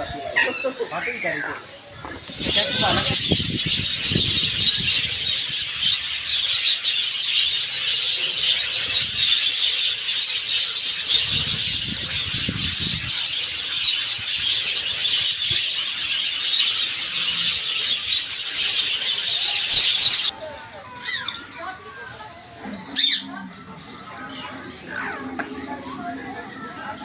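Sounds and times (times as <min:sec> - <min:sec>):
flock of budgerigars chattering: 0:00.0 - 0:27.0.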